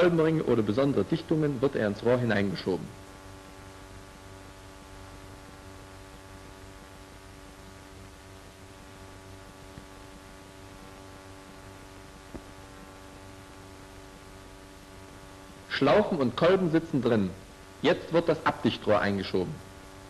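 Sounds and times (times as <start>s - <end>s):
film soundtrack hum and hiss: 0.0s - 20.0s.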